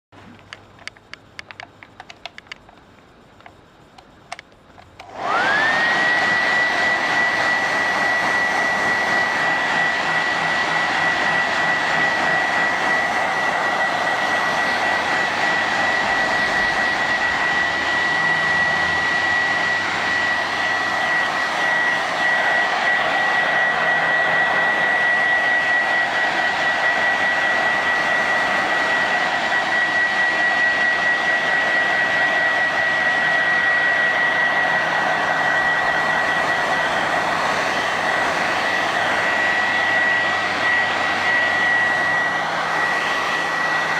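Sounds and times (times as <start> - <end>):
hair dryer running: 4.3 - 43.9.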